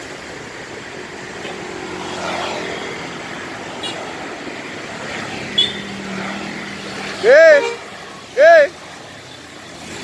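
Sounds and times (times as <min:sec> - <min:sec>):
bus engines running: 0:00.0 - 0:10.0
traffic noise: 0:00.0 - 0:10.0.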